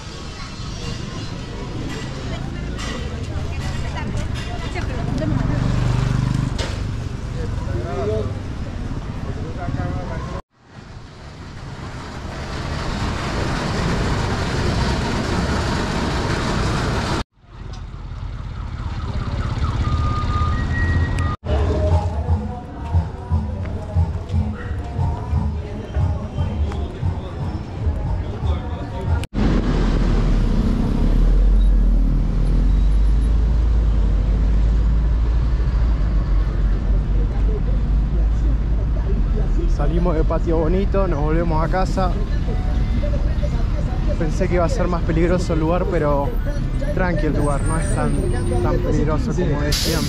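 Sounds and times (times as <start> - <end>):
buses cars and motorcycles passing: 0.0 - 21.8, 23.8 - 50.0
street traffic roar: 0.0 - 50.0.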